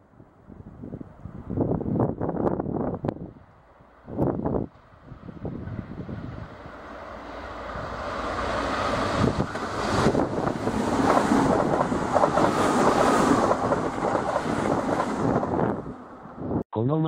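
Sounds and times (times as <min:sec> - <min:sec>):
electric train rumbling past: 0:00.0 - 0:16.6
wind buffeting microphone: 0:00.2 - 0:07.0, 0:07.7 - 0:16.6.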